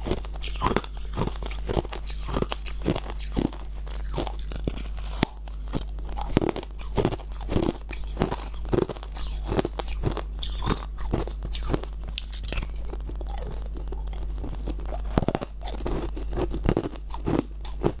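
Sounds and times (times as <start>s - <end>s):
ice crunching between teeth: 0.0s - 18.0s
steady low hum: 0.0s - 18.0s.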